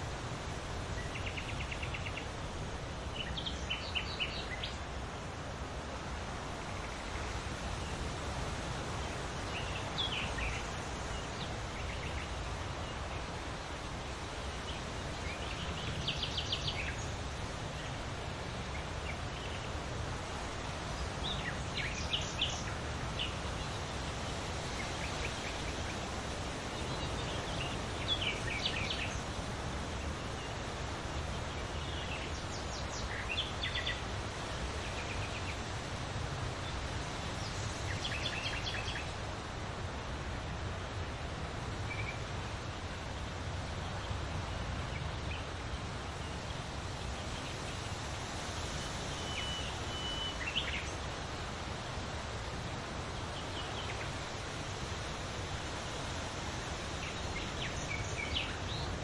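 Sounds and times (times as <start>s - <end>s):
wind rustling leaves: 0.0s - 59.0s.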